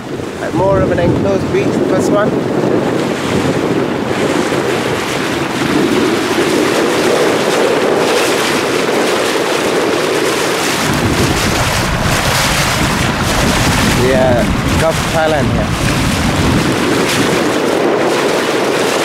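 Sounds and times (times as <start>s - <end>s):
speedboat engine: 0.0s - 19.0s
water rushing past hull: 0.0s - 19.0s
wind buffeting microphone: 0.0s - 19.0s.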